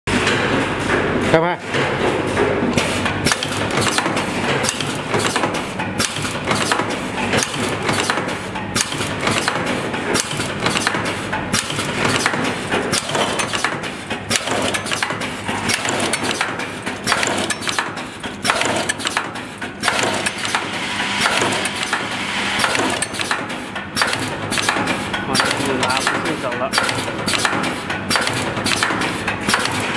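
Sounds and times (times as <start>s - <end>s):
machine clattering clicks and knocks: 0.1s - 29.9s.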